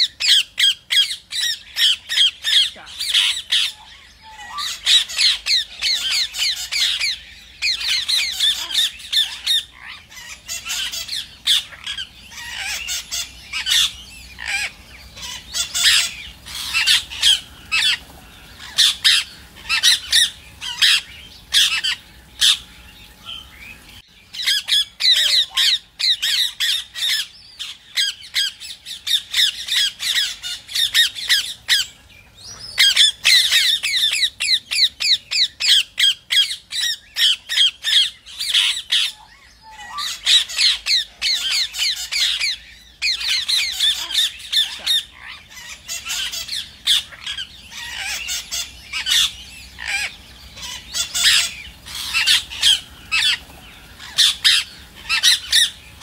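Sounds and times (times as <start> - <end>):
parakeets squawking and screeching: 0.0 - 56.0.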